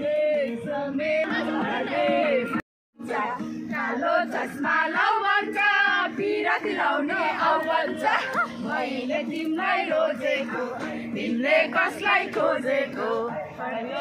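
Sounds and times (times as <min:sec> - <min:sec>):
women singing and whooping: 0:00.0 - 0:14.0.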